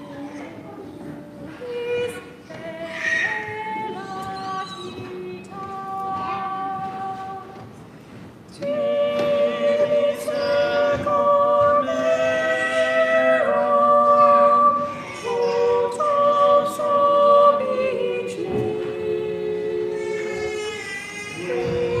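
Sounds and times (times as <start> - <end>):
choir singing unaccompanied: 0.0 - 7.8, 8.5 - 22.0.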